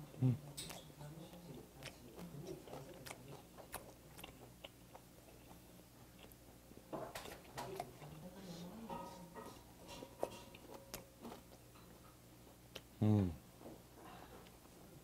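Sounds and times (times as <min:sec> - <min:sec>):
man chewing with soft mouth clicks: 0:00.0 - 0:15.0.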